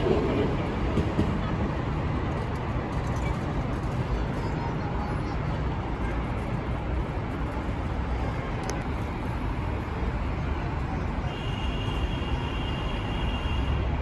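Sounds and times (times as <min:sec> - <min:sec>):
train rumbling: 0:00.0 - 0:11.3.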